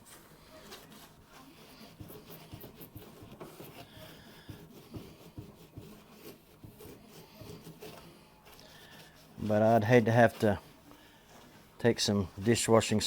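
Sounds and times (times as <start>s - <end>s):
hand scrubbing a surface: 0.0s - 13.0s.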